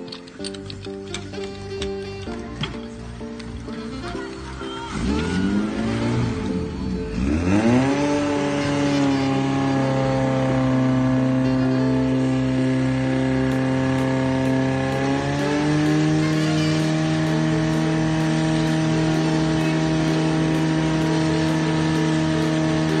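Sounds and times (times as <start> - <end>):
fire pump engine running: 0.0 - 23.0.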